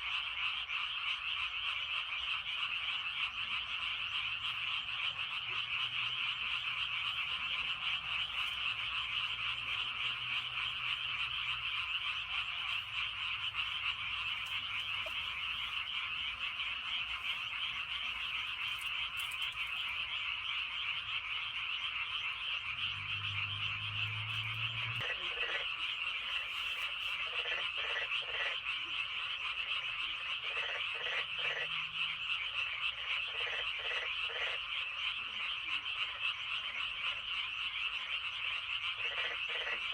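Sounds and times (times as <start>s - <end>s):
chorus of frogs trilling: 0.0s - 39.9s
deep drawn-out frog calls: 0.0s - 39.9s
short frog croaks: 0.0s - 39.9s.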